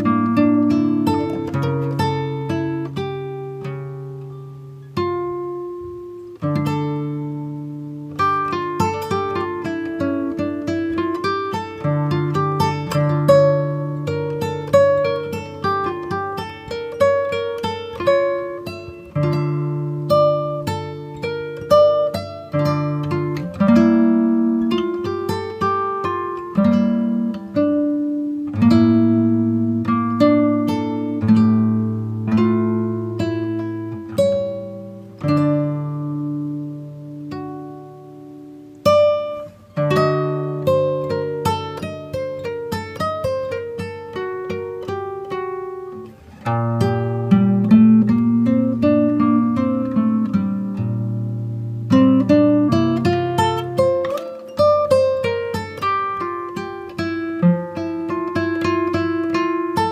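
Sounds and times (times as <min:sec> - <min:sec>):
plucked guitar-like string instrument: 0:00.0 - 0:59.9.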